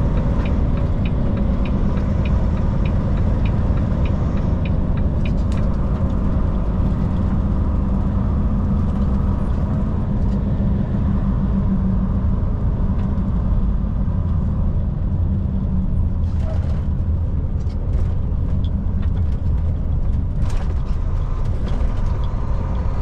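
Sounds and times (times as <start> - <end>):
truck engine and tyre drone: 0.0 - 23.0.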